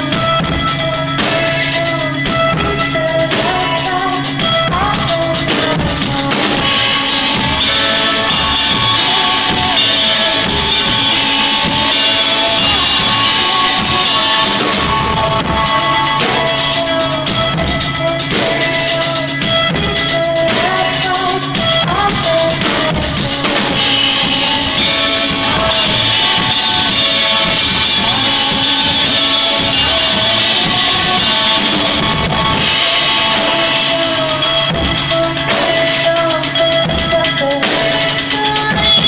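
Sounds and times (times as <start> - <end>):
drum kit: 0.0 - 39.0
guitar: 0.0 - 39.0.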